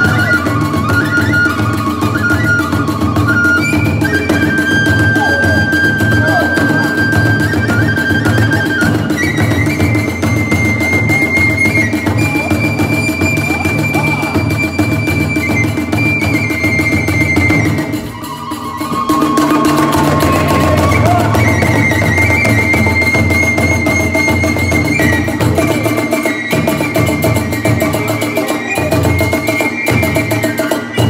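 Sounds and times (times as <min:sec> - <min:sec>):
bamboo flute high notes: 0:00.0 - 0:31.0
fast steady drumming: 0:00.0 - 0:31.0.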